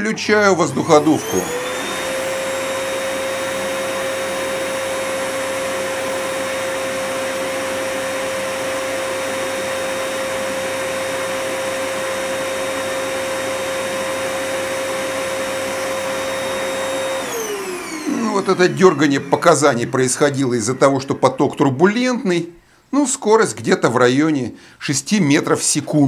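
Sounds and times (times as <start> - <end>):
air blower whining: 0.0 - 22.4.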